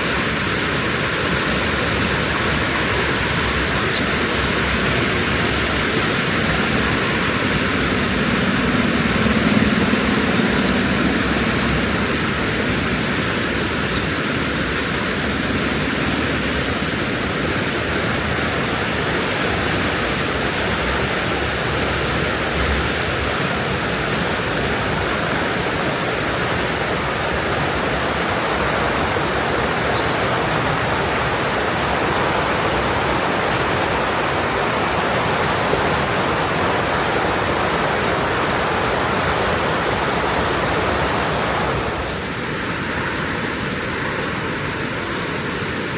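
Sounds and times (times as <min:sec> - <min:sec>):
fast-flowing water rushing: 0:00.0 - 0:45.9.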